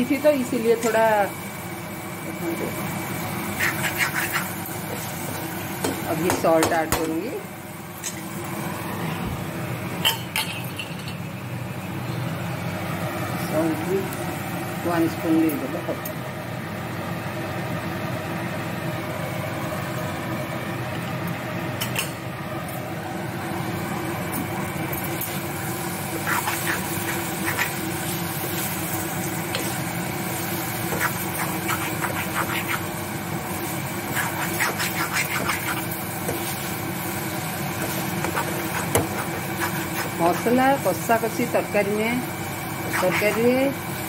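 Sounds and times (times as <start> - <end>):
masala frying: 0.0 - 44.0
mechanical hum: 0.0 - 44.0.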